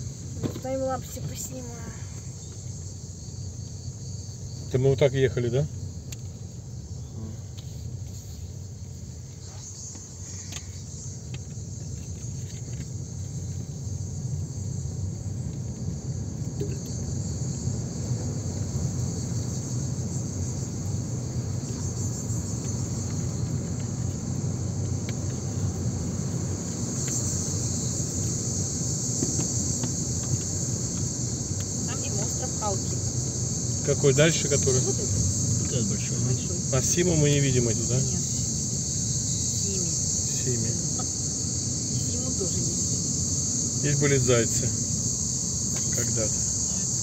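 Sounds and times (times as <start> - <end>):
car engine and road rumble: 0.0 - 47.0
insects chirping: 0.0 - 47.0.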